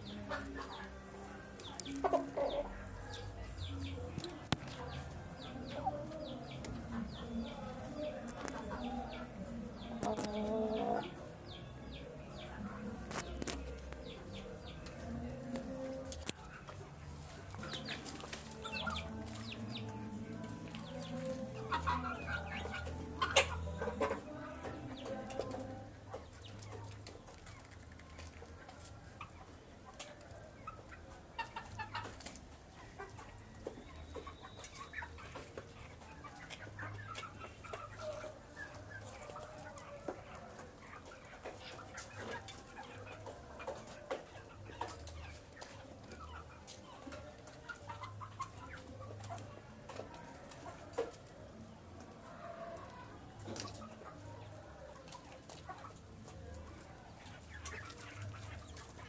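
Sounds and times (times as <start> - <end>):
chicks clucking and cheeping: 0.0 - 59.0.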